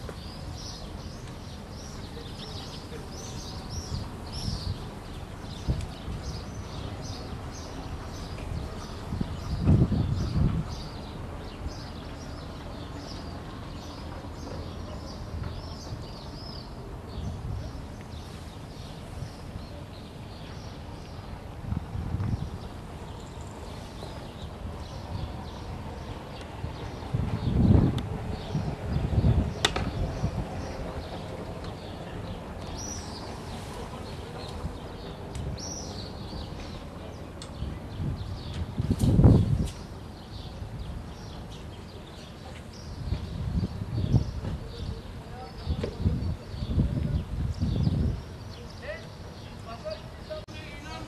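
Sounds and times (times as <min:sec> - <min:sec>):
small birds chirping: 0:00.0 - 0:21.4, 0:22.2 - 0:51.0.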